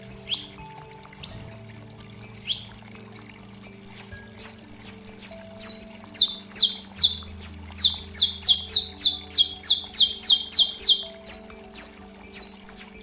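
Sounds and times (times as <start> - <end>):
faint background music: 0.0 - 13.0
finch singing sharp high notes: 0.0 - 13.0.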